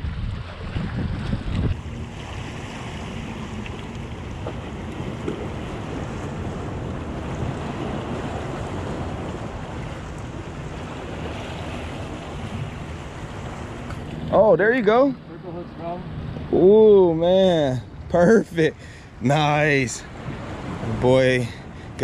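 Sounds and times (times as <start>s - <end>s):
ocean surf against rocks: 0.0s - 22.0s
wind buffeting microphone: 0.0s - 22.0s.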